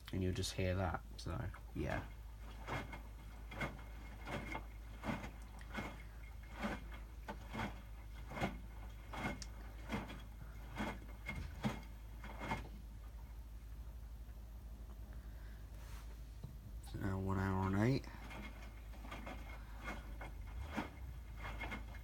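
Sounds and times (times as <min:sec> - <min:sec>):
washing machine low hum: 0:00.0 - 0:22.0
laundry sloshing and thumping in drum: 0:00.5 - 0:14.4, 0:15.8 - 0:22.0.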